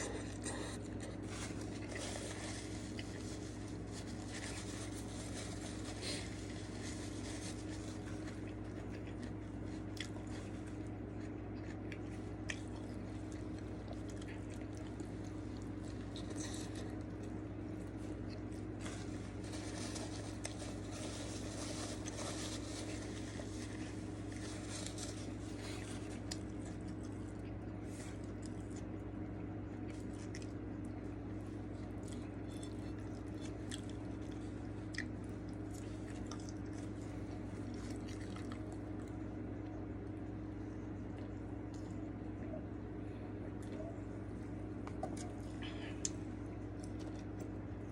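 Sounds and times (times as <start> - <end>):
person chewing food: 0.0 - 39.8
steady low hum: 0.0 - 47.9.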